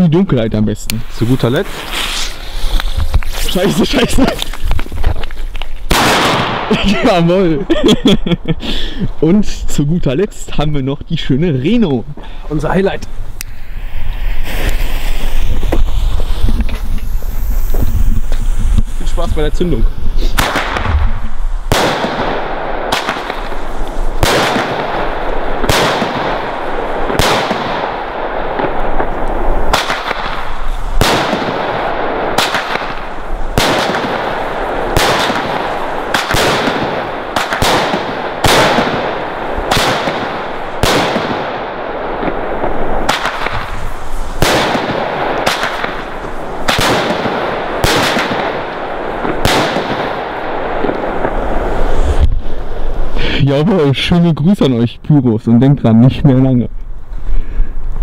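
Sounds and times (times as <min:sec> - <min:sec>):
rushing crackling firework noise: 0:00.0 - 0:54.7
firework bangs: 0:01.0 - 0:07.6, 0:12.6 - 0:53.4.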